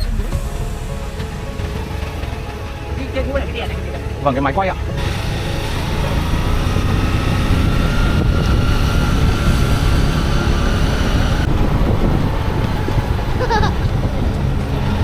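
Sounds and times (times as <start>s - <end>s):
motorcycle engine rumbling: 0.0s - 15.0s
wind buffeting microphone: 0.0s - 15.0s.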